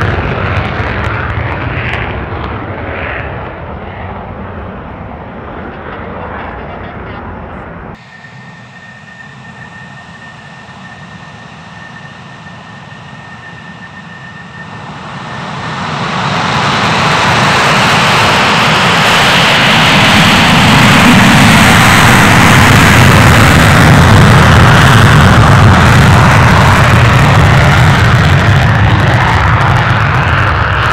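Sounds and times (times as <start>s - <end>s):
jet engine roaring: 0.0s - 30.9s.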